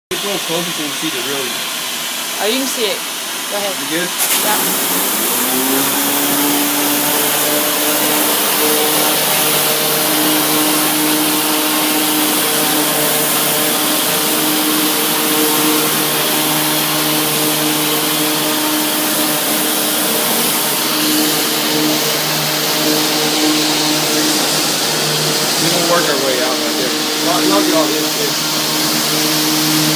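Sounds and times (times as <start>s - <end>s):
cleaning machine whine: 0.1s - 29.9s
suction and spray hiss: 0.1s - 29.9s.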